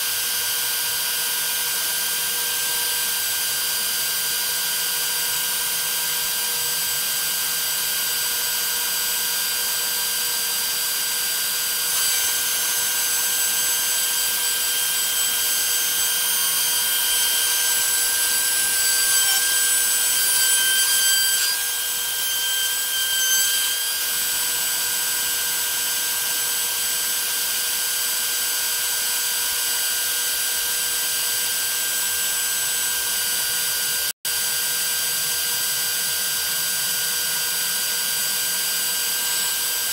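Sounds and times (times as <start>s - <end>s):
router milling aluminium: 0.1s - 39.9s.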